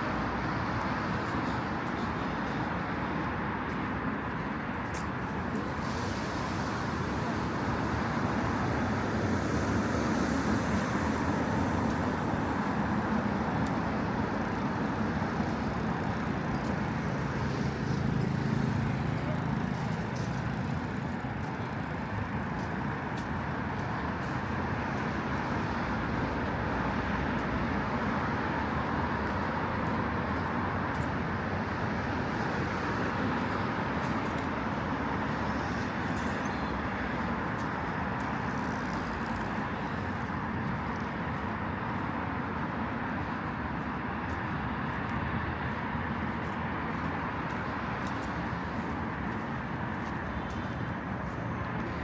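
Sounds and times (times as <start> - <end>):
car engines and tyres passing: 0.0 - 52.0.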